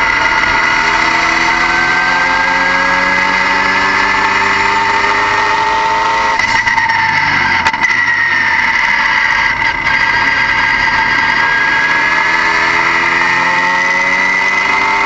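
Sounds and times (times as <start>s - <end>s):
car engine running: 0.0s - 15.0s
high-pitched whine: 0.0s - 15.0s.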